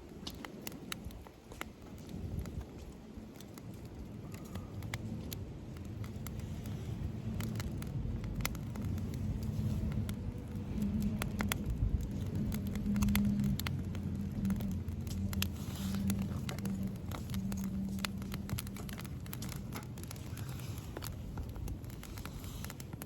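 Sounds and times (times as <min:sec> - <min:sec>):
campfire crackling and popping: 0:00.0 - 0:23.0
low rumble with hum: 0:02.1 - 0:23.0.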